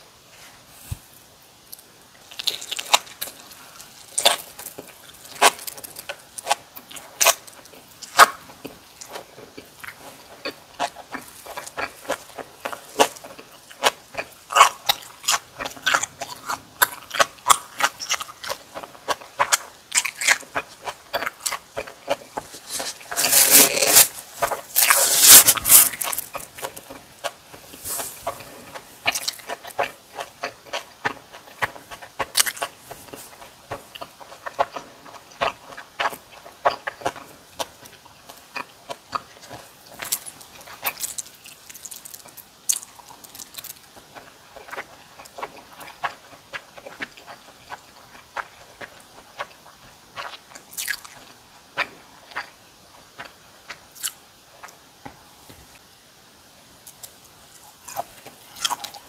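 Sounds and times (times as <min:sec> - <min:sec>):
person chewing crunchy food: 0:01.8 - 0:54.9, 0:56.9 - 0:59.0.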